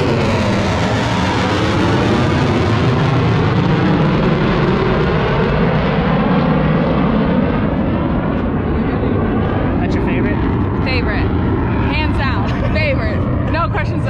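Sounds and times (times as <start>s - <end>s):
jet engines passing overhead: 0.0s - 14.0s.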